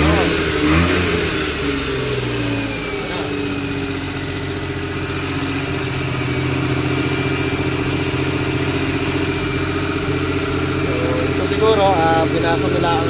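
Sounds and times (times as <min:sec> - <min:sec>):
petrol engine fast idle: 0:00.0 - 0:13.0.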